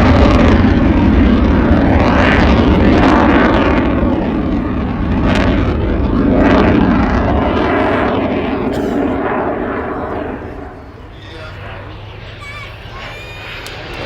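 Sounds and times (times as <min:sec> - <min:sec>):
aircraft engine roar: 0:00.0 - 0:14.0.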